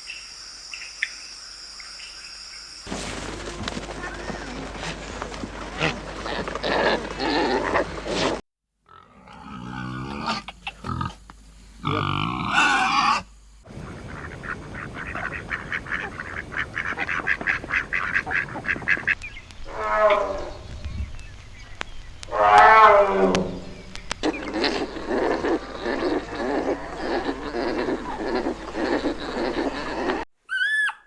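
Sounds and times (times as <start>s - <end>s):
farm animal calls: 2.9s - 20.9s, 22.2s - 31.0s.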